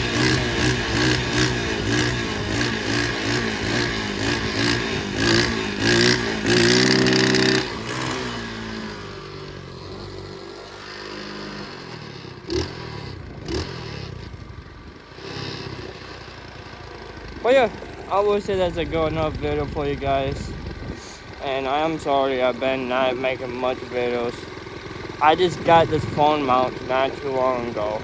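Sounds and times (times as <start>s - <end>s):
pit bike engine revving: 0.0s - 28.0s.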